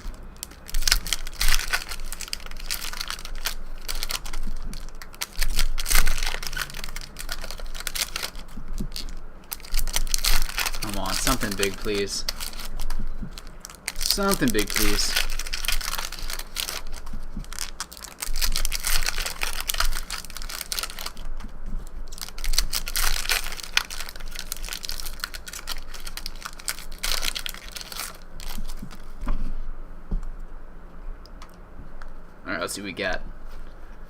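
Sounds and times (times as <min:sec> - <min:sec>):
wrappers tearing and crinkling: 0:00.0 - 0:29.3.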